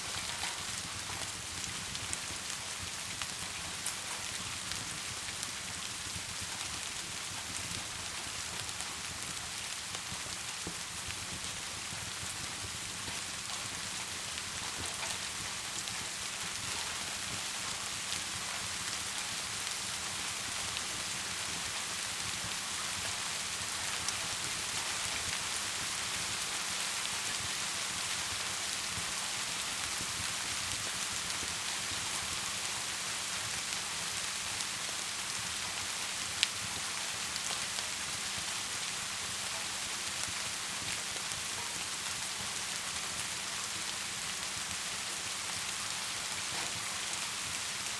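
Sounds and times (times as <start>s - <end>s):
steady rain: 0.0s - 47.9s
wood fire crackling: 0.0s - 47.9s.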